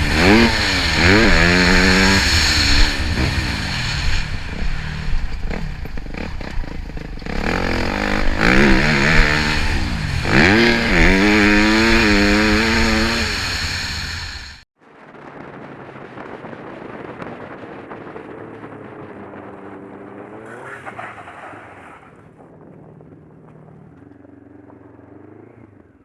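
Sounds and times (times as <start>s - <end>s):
motorcycle engine revving: 0.0s - 14.7s, 17.5s - 26.0s
steady rushing noise: 0.0s - 24.1s.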